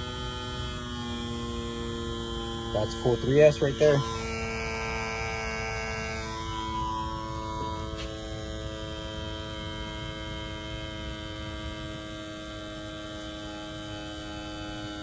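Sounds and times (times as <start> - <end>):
electric fuel pump whine: 0.0 - 15.0.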